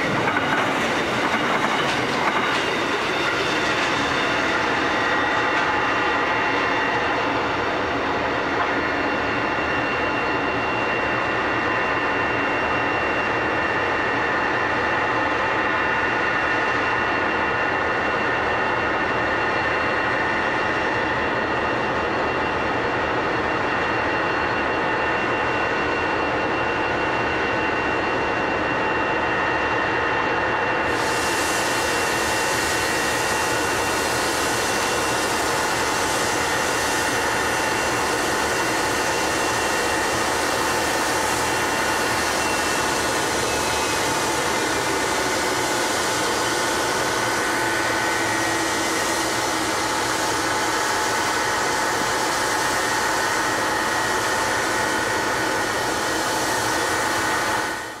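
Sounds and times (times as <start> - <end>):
locomotive engines running: 0.0 - 58.0.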